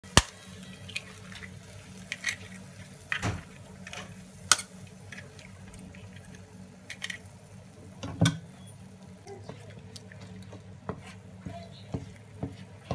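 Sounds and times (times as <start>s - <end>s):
frying sizzle: 0.0s - 12.9s
low steady hum: 0.0s - 12.9s.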